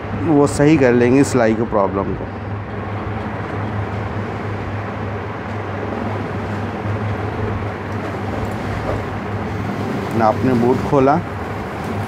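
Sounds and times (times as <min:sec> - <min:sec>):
constant low hum: 0:00.0 - 0:12.0
steady background rumble: 0:00.0 - 0:12.0.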